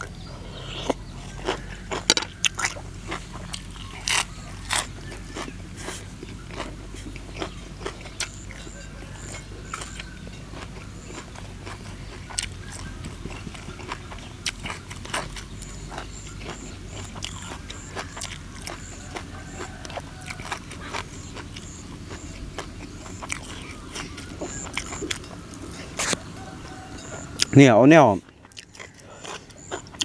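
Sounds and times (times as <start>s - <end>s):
chewing and lip smacking: 0.0s - 27.6s, 28.2s - 30.0s
steady low hum: 0.0s - 30.0s.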